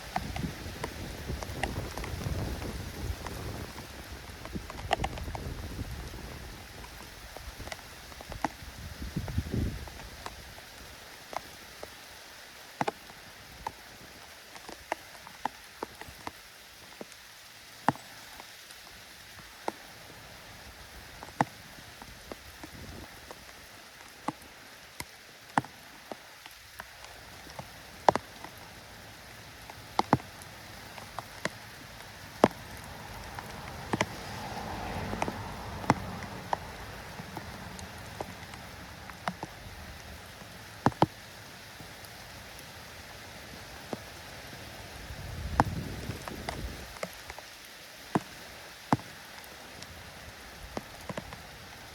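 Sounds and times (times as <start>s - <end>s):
light rain hiss: 0.0s - 51.9s
raindrops ticking on surface: 0.0s - 51.9s.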